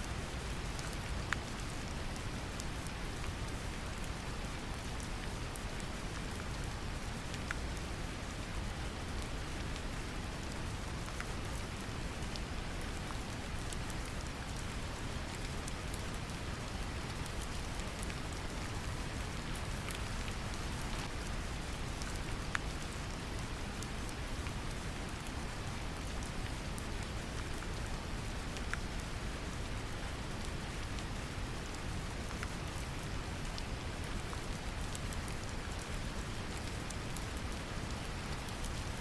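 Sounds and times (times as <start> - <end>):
gentle rain: 0.0 - 39.0.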